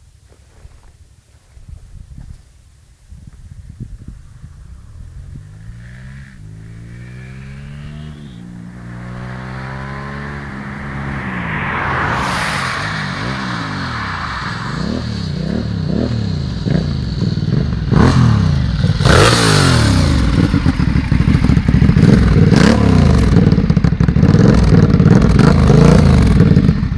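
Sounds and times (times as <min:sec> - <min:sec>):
motorcycle engine revving: 0:04.4 - 0:26.9.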